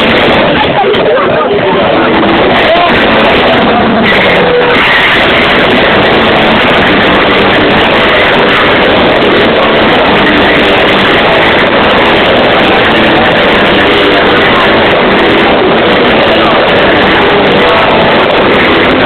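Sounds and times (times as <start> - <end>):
distorted live rock music: 0.0 - 19.0.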